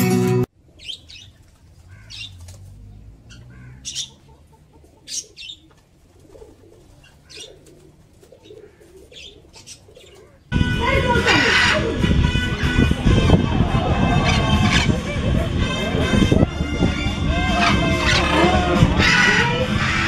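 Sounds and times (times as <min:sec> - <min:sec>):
birds chirping: 0:00.6 - 0:20.0.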